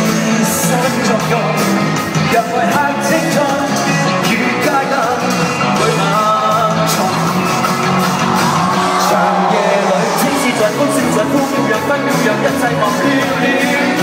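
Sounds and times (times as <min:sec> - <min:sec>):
drums: 0:00.0 - 0:14.0
electric guitar: 0:00.0 - 0:14.0
person singing: 0:00.0 - 0:14.0.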